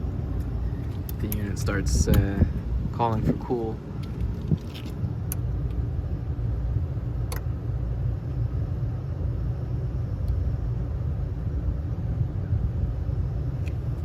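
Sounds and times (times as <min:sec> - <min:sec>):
hvac unit rumbling: 0:00.0 - 0:14.0.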